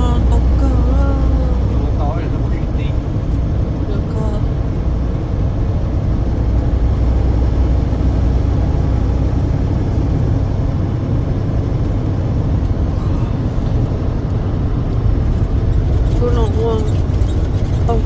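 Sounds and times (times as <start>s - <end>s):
truck driving rumble: 0.0s - 18.0s.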